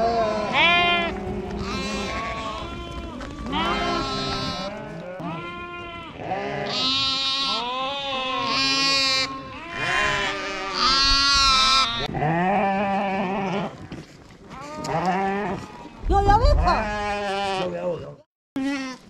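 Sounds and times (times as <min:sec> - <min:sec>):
sheep and lambs bleating: 0:00.0 - 0:13.8, 0:14.6 - 0:17.9, 0:18.6 - 0:19.0.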